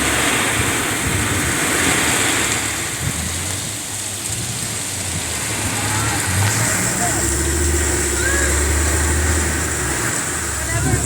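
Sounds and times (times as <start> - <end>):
rain: 0.0 - 11.0
storm wind gusting: 0.0 - 11.0
wind buffeting microphone: 0.0 - 11.0.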